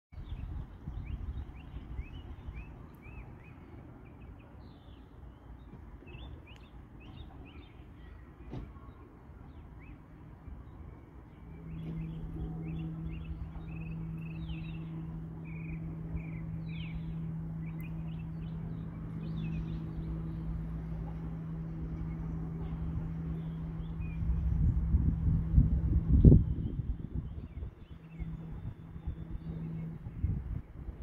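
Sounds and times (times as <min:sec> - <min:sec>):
low mechanical hum: 0:00.2 - 0:31.0
songbirds chirping and whistling: 0:00.2 - 0:31.0.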